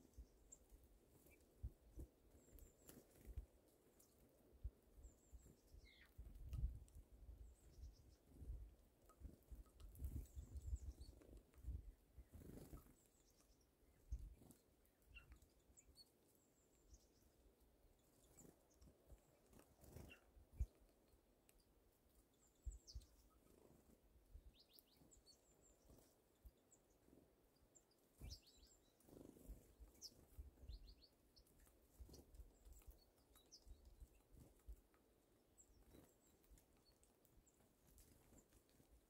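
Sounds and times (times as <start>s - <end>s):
small bird chirps: 0.0s - 39.0s.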